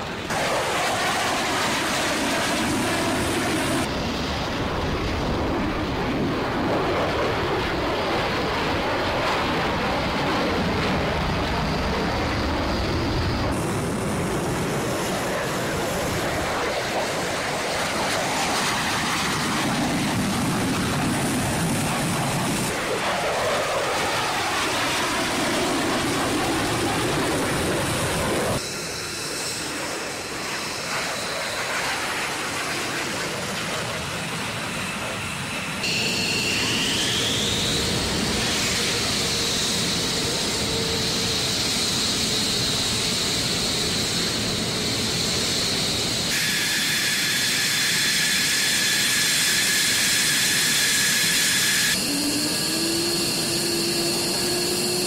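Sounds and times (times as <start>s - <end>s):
jet engines turbine whine: 0.0s - 55.0s
jet passing overhead: 0.0s - 55.0s.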